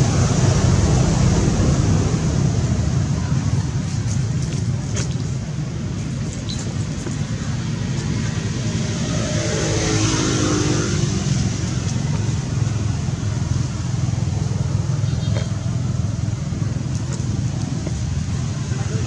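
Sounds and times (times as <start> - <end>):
motor vehicle passing: 0.0 - 19.0
steady low rumble: 0.0 - 19.0.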